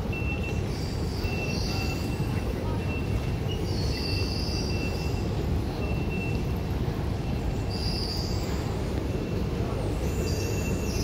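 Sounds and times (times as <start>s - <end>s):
low rumble of station concourse: 0.0s - 11.0s.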